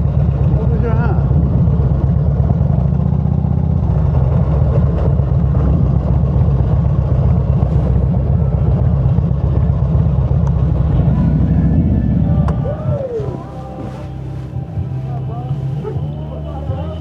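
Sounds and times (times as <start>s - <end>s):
motorcycle engine: 0.0s - 17.0s
wind rumble: 0.0s - 17.0s.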